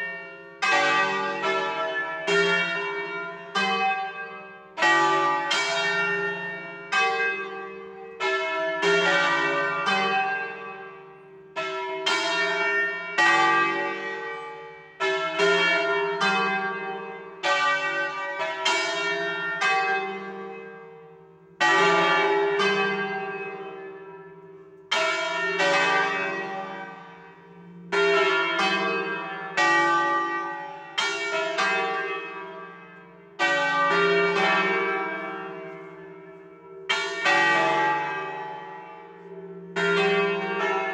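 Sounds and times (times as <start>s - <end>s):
church bells swinging and ringing: 0.0s - 40.9s.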